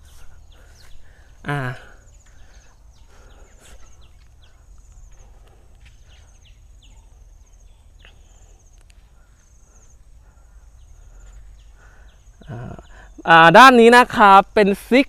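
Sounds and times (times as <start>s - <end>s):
pulsing insect trill: 0.0s - 15.0s.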